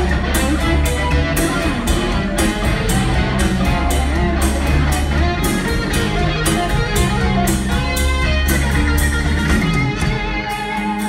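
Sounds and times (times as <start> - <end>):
drum beat: 0.0 - 11.0
electric guitar: 0.0 - 11.0
live rock band playing: 0.0 - 11.0.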